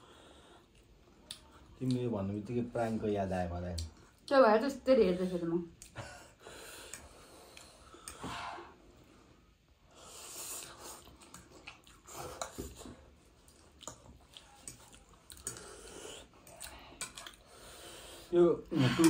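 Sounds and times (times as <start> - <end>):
people slurping and chewing noodles: 0.0 - 4.3, 5.7 - 19.0.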